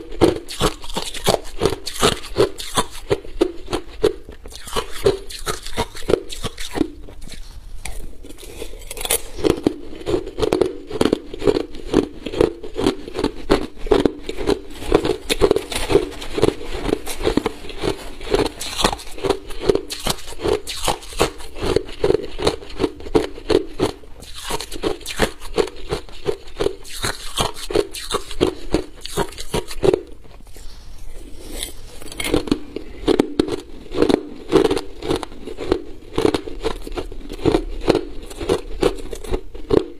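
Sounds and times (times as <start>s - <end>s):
ice being chewed crunching: 0.0s - 39.9s.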